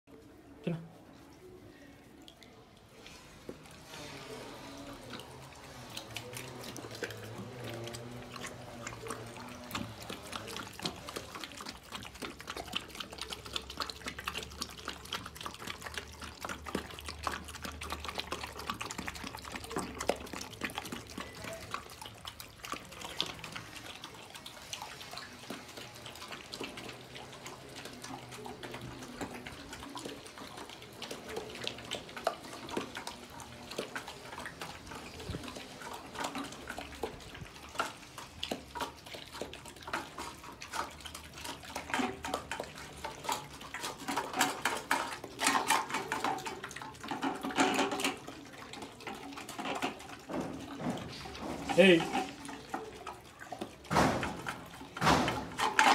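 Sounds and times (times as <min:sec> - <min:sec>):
puppies lapping and slurping food: 0:00.1 - 0:55.9.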